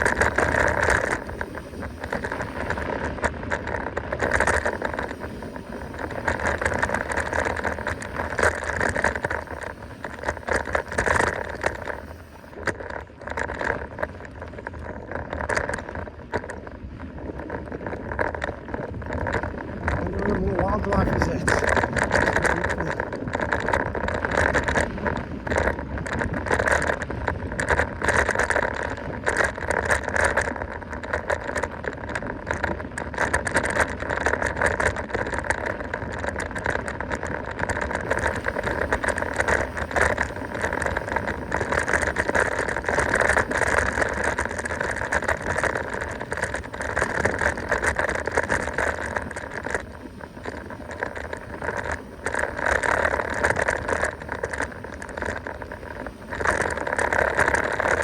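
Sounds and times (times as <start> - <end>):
bike rattling over bumps: 0.0 - 58.0
bike tyres rolling on dirt: 0.0 - 58.0.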